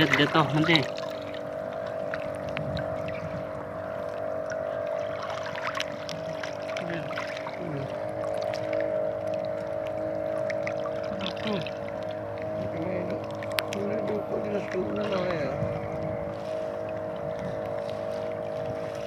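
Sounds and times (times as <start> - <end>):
small boat engine running: 0.0 - 19.0
water splashing and sloshing: 0.0 - 19.0.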